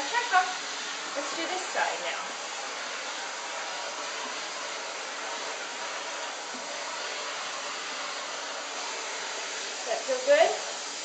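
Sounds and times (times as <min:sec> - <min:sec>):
vacuum cleaner suction hiss: 0:00.0 - 0:11.0.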